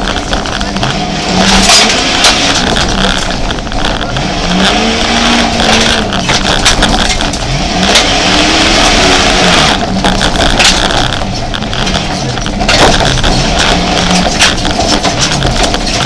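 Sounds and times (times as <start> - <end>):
car engine revving: 0.0 - 16.0
knocks and rattles: 0.0 - 16.0.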